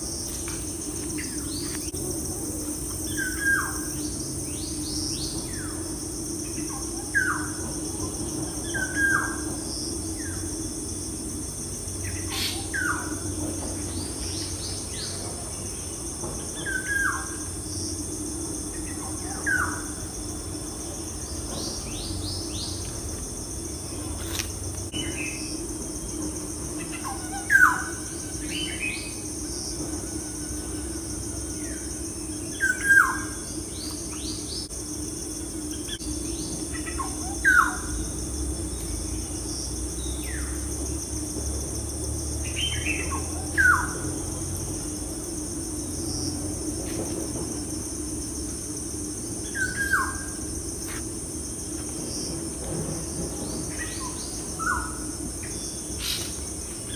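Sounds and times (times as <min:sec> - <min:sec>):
high-pitched background hum: 0:00.0 - 0:56.9.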